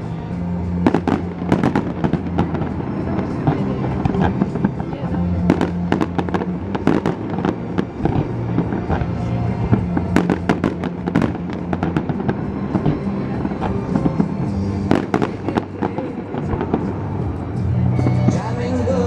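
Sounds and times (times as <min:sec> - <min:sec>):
loud music: 0:00.0 - 0:19.0
fireworks cracking and popping: 0:00.7 - 0:17.2.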